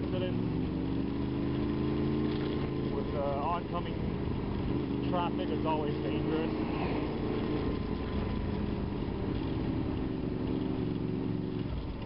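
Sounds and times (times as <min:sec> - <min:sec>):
motorcycle engine running: 0:00.0 - 0:12.0
road and wind noise hiss: 0:00.0 - 0:12.0.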